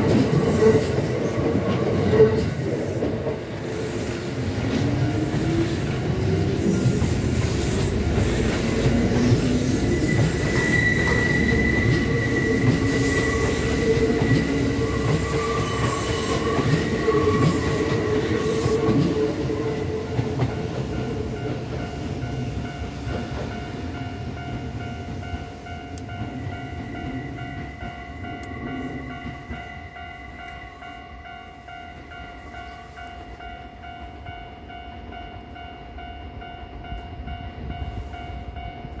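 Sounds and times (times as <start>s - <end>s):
train clacking over rails: 0.0s - 39.0s.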